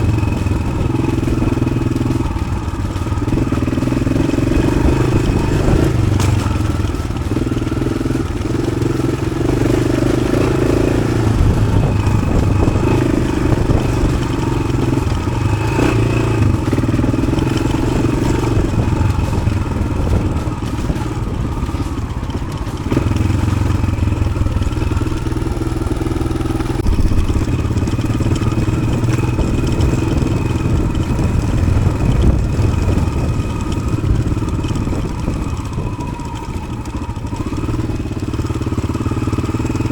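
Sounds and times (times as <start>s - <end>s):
motorcycle engine revving off-road: 0.0s - 39.9s.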